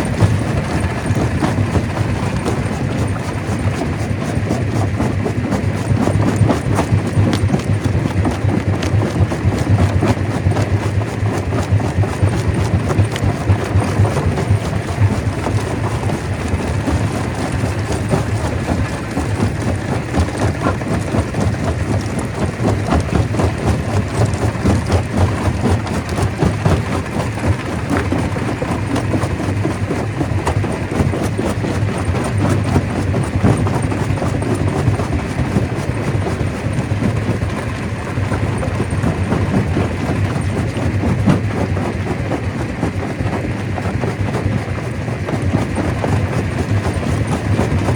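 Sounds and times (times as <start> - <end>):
rock crusher humming: 0.0 - 47.9.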